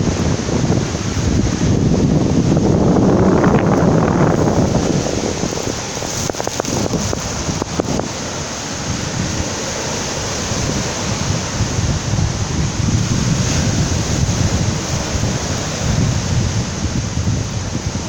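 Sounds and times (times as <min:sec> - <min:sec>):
surf breaking on shore: 0:00.0 - 0:18.0
wind buffeting microphone: 0:00.0 - 0:18.0.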